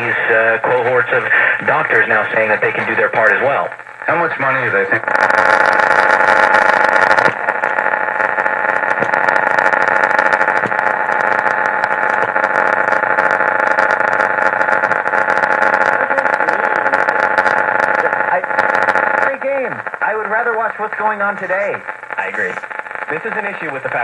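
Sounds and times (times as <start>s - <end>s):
radio buzzing static: 0.0s - 24.0s.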